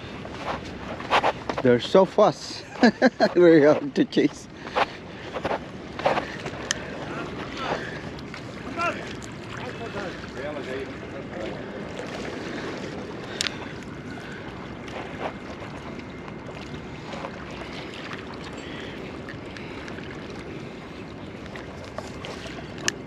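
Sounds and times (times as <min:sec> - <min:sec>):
sea noise: 0:00.0 - 0:23.0.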